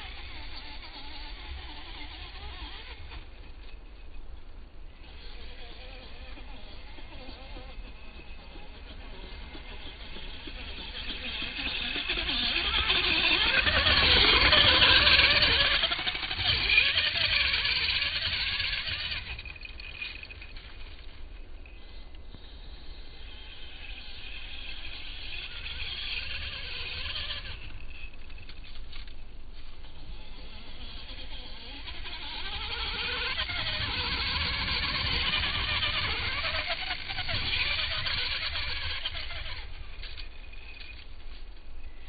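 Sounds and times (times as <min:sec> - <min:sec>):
electric motor whine: 0:00.0 - 0:42.0.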